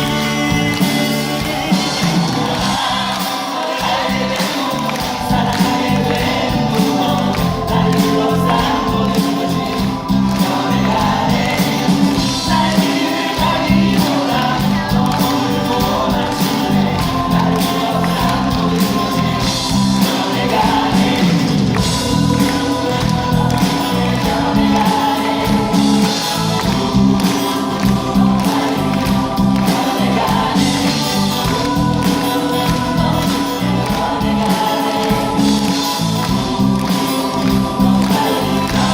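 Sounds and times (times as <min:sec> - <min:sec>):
band accompaniment with steady beat: 0:00.0 - 0:38.9
several voices singing together: 0:00.0 - 0:38.9.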